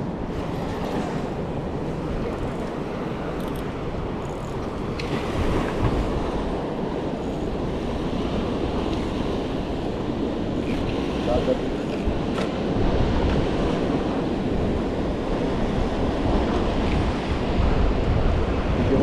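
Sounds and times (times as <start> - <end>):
ocean waves washing in: 0.0 - 19.0
wind buffeting microphone: 0.0 - 19.0.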